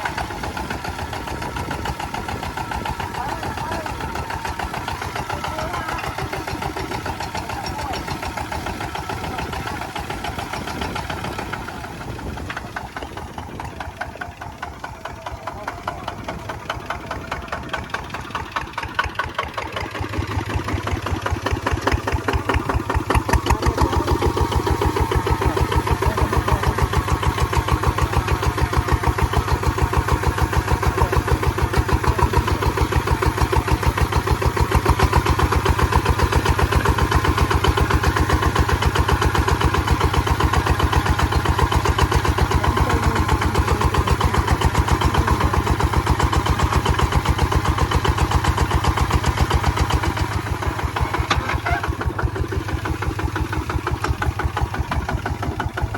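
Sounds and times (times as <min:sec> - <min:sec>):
diesel engine pulsing: 0:00.0 - 0:55.9.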